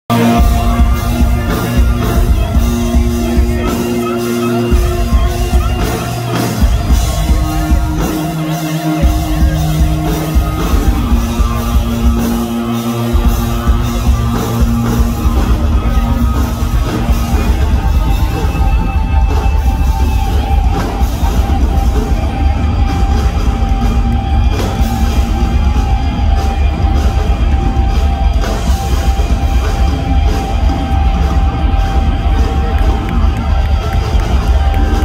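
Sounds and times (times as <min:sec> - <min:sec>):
electric guitars and bass riffing: 0:00.1 - 0:35.0
fast drumming: 0:00.1 - 0:35.0.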